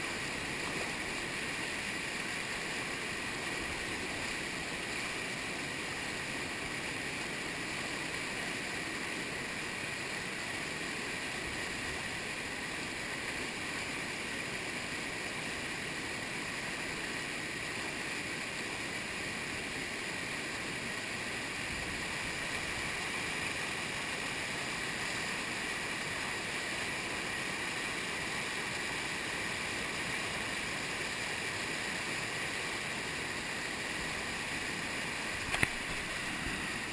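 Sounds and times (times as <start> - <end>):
whitewater rushing: 0.0 - 36.9.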